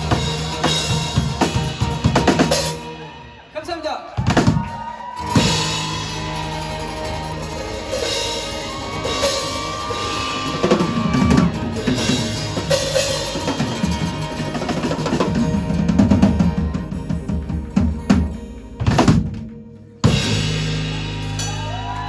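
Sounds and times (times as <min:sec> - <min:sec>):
live rock band playing: 0:00.0 - 0:03.6, 0:04.3 - 0:22.0
drum fills and rolls: 0:00.0 - 0:22.0.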